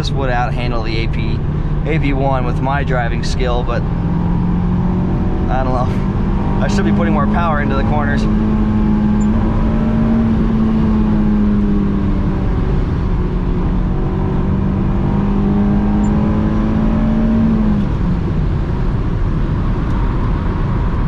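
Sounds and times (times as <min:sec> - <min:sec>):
car engine pulling under load: 0:00.0 - 0:18.1
tyre and road noise: 0:00.0 - 0:21.0.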